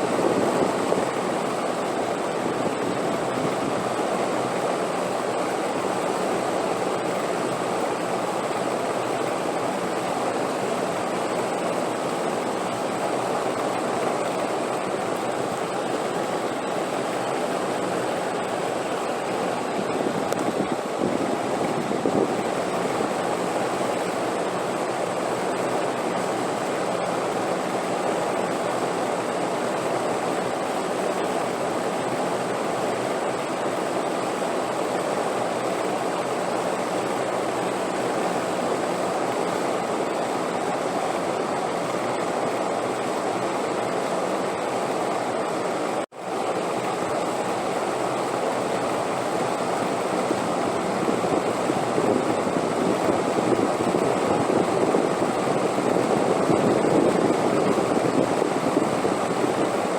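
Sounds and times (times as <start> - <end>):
steady wind rushing hiss: 0.0 - 59.9.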